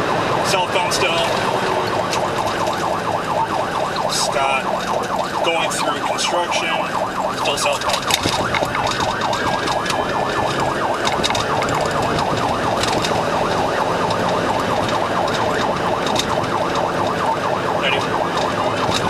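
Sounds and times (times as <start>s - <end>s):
police siren fast warble: 0.0s - 19.0s
road noise: 0.0s - 19.0s
siren wail: 0.0s - 19.0s.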